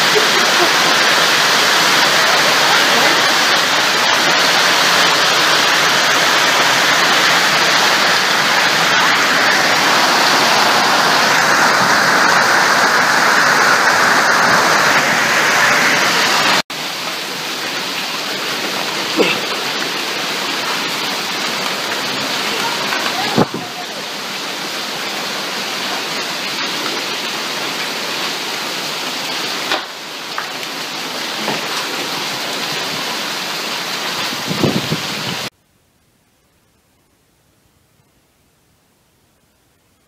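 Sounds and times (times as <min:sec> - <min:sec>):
heavy hail and rain: 0:00.0 - 0:35.5.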